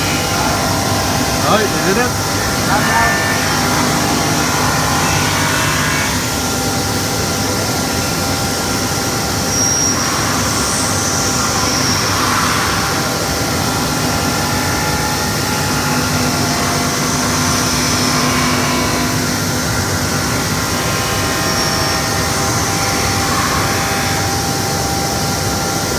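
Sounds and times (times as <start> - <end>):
faint machine whines: 0.0 - 25.9
machinery running: 0.0 - 25.9.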